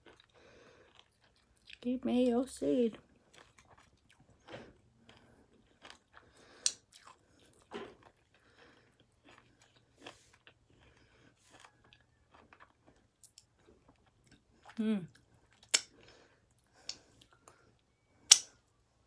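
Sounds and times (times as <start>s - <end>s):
crunchy food chewing: 0.0s - 1.9s, 3.0s - 18.4s.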